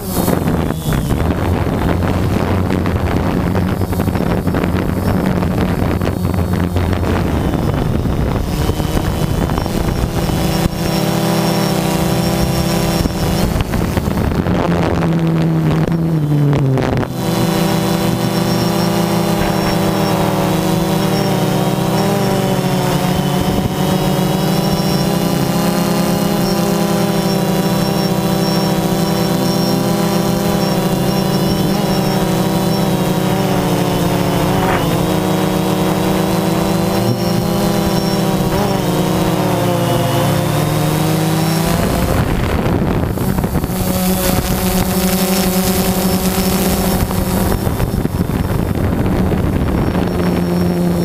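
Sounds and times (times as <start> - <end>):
drone propellers humming: 0.0 - 51.0
wind buffeting: 0.0 - 51.0.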